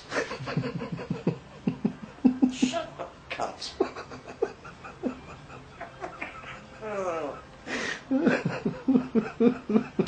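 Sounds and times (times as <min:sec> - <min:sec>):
rhythmic laughter: 0:00.0 - 0:02.8, 0:03.8 - 0:10.0.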